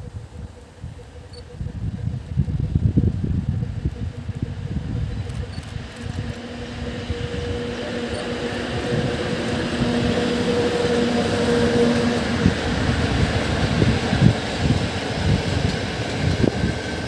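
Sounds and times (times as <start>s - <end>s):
electric locomotive hauling train: 0.0s - 17.0s.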